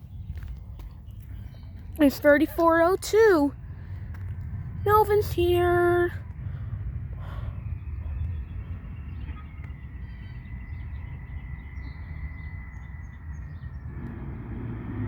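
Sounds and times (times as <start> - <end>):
birds chirping: 0.0 - 15.0
diesel truck engine rumbling: 0.0 - 15.0
thin steady whine: 2.0 - 14.8.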